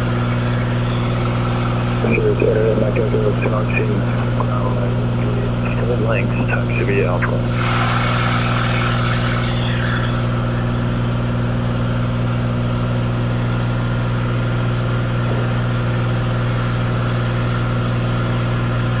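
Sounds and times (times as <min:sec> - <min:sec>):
plane piston engine droning: 0:00.0 - 0:18.9.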